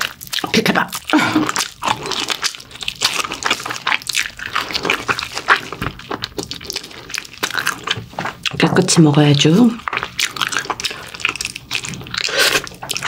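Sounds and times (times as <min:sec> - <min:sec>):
person chewing and sucking: 0:00.0 - 0:08.6, 0:09.5 - 0:13.0.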